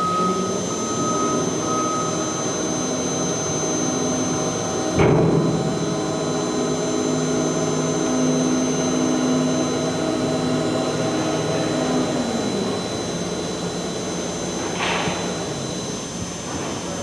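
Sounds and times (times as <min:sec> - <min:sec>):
electric hoist motor hum and whine: 0:00.0 - 0:17.0.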